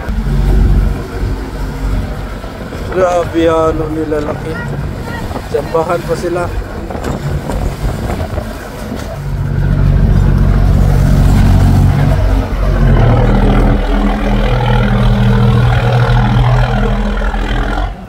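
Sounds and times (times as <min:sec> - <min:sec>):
loud low engine drone: 0:00.0 - 0:05.5, 0:06.1 - 0:18.0.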